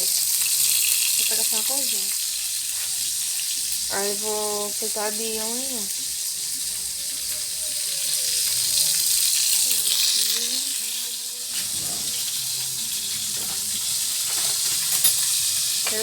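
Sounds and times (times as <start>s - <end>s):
patties sizzling in frying: 0.0s - 16.0s.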